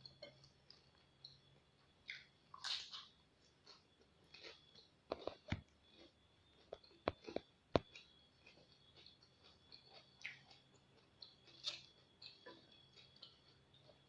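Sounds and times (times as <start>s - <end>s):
chewing raw vegetables: 0.0s - 14.0s.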